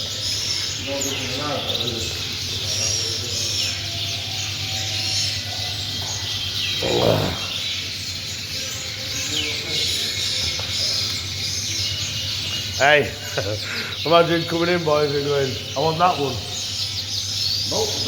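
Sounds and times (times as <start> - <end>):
finches and canaries chirping: 0.0 - 18.0.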